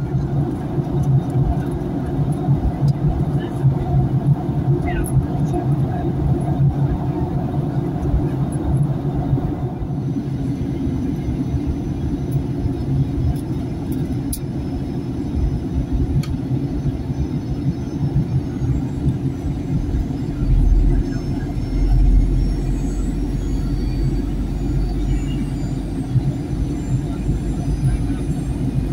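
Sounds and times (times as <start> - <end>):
airplane cabin engine rumble: 0.0 - 28.9.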